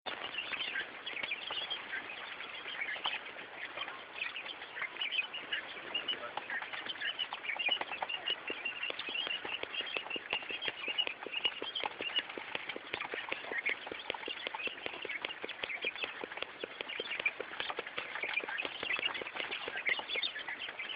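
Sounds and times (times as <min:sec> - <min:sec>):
scratching and wing-flapping in sand: 0:00.1 - 0:20.9.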